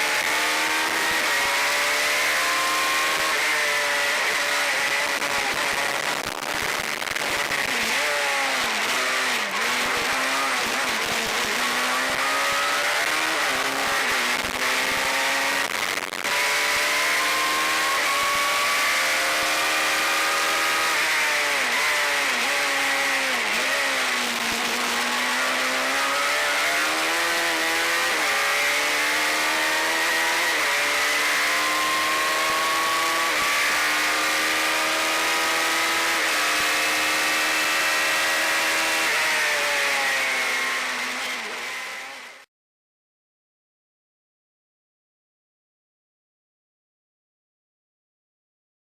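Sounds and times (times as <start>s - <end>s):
race car engine at full throttle: 0.0s - 42.5s.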